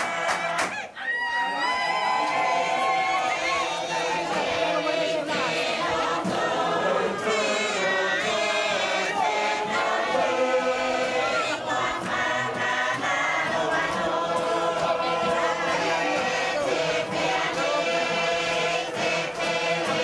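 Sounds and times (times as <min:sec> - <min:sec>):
group of people chanting together: 0:00.0 - 0:00.8, 0:01.6 - 0:20.0.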